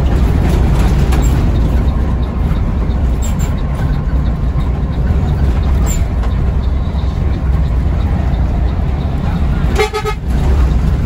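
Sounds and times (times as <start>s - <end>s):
bus engine and road noise: 0.0s - 11.0s.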